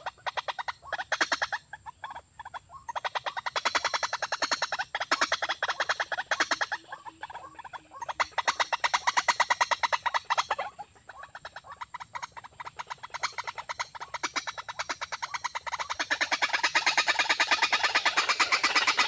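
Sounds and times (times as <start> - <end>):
rapid pulsed croaking calls: 0.0 - 19.0.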